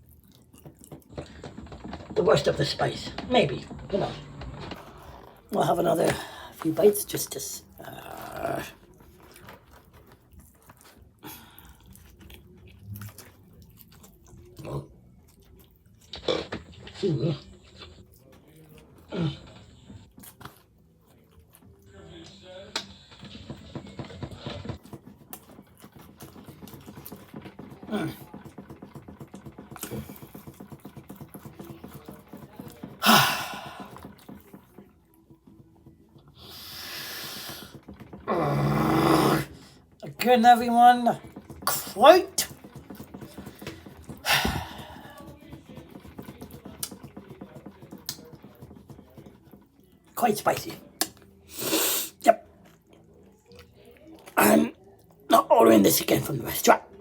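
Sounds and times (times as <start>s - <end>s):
person chewing food: 0.0s - 2.1s, 7.6s - 40.0s, 41.2s - 50.1s, 52.5s - 55.3s.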